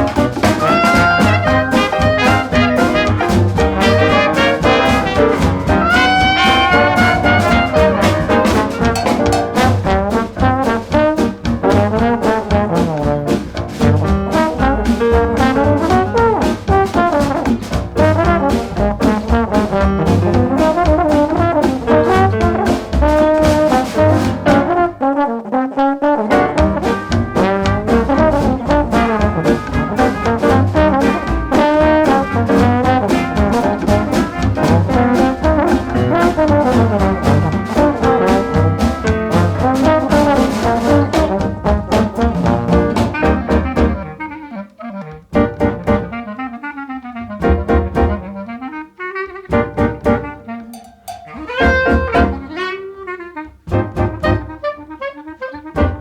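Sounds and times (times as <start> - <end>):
brass section: 0.0 - 56.0
swing jazz band playing: 0.0 - 56.0.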